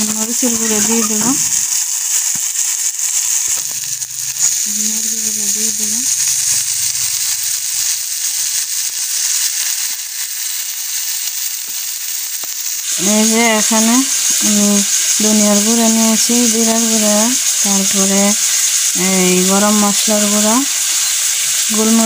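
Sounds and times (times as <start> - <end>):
masala sizzling in oil: 0.0 - 22.0.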